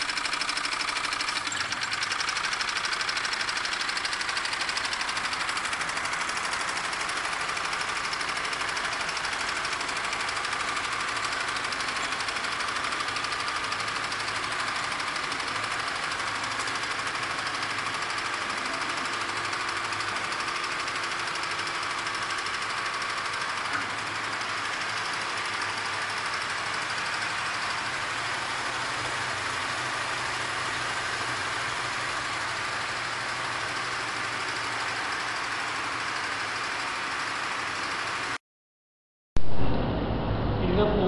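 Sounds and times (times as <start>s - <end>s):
engine running steadily: 0.0s - 38.4s.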